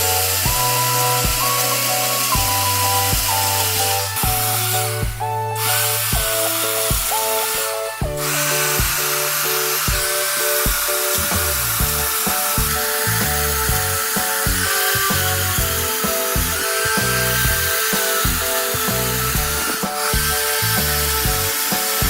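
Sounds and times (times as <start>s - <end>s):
background music with bass line: 0.0s - 22.0s
power tool working wood: 0.0s - 22.0s.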